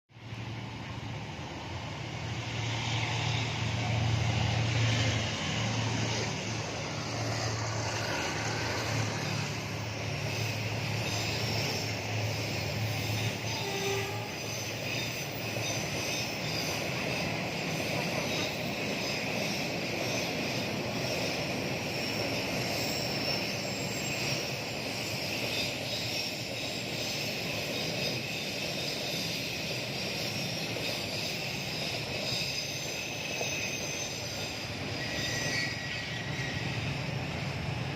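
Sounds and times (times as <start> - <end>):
locomotive engine drone: 0.2 - 37.9
wheels ringing on rails: 2.2 - 37.9.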